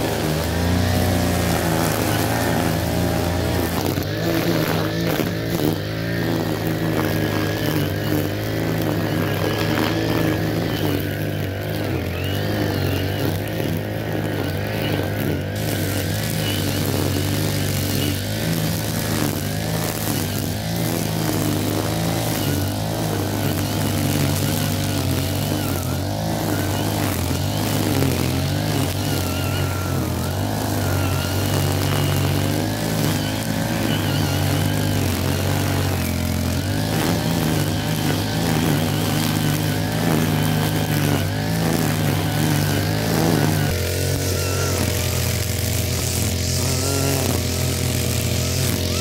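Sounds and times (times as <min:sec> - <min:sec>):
brush cutter engine trimming grass: 0:00.0 - 0:49.0.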